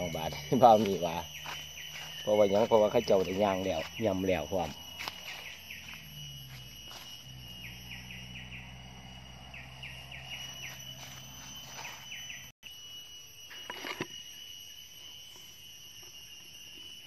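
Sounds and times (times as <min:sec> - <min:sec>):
falling insect chirps: 0:00.0 - 0:17.0
insect drone: 0:00.0 - 0:17.0.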